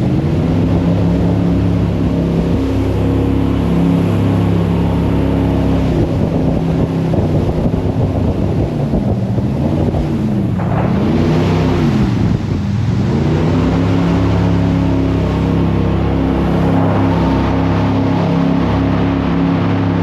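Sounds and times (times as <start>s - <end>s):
boat engine running hard: 0.0s - 20.0s
wind and water rushing: 0.0s - 20.0s.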